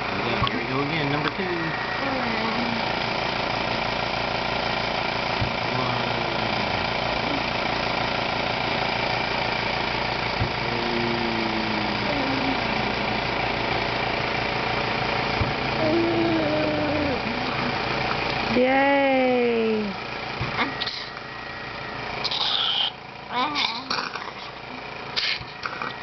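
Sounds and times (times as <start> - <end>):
cough assist machine blower hum: 0.0 - 18.5, 20.3 - 26.0.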